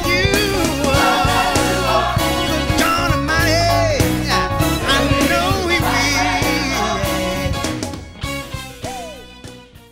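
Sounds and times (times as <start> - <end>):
gospel song with band: 0.0 - 9.9.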